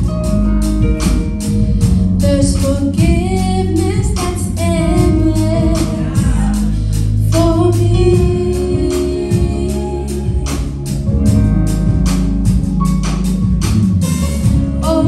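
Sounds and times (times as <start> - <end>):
steady beat accompaniment: 0.0 - 15.0.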